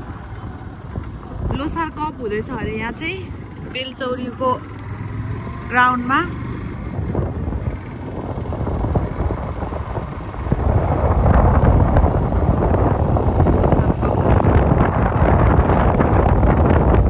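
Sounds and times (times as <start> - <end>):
vehicle rumble: 0.0 - 17.0
wind buffeting microphone: 0.0 - 17.0.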